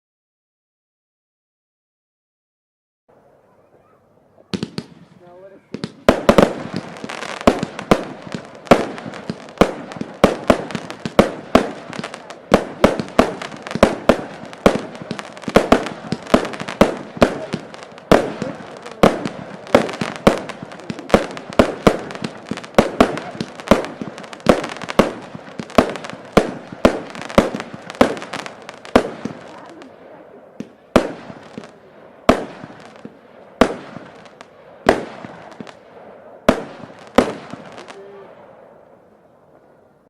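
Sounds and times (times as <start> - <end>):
firework battery bangs: 4.5 - 29.8, 30.6 - 38.1.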